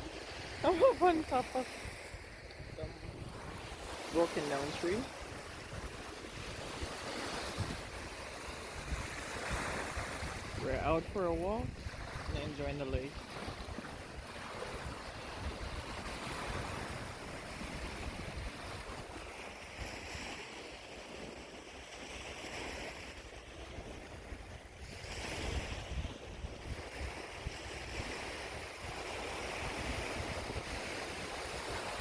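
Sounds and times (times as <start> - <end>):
lake waves washing on shore: 0.0 - 32.0
wind rumbling on microphone: 0.0 - 32.0.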